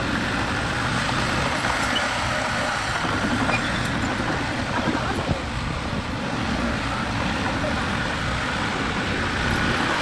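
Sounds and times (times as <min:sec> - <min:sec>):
construction vehicle engine running: 0:00.0 - 0:10.0.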